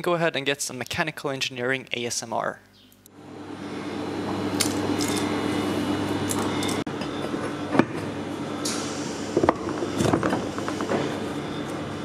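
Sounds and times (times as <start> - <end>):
steady hum: 1.8 - 12.0.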